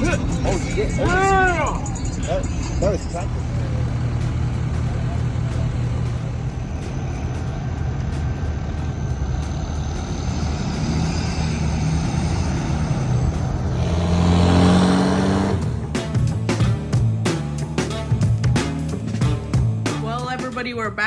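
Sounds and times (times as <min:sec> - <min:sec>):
engine revving up: 0:00.0 - 0:17.0
truck engines droning: 0:00.0 - 0:20.9.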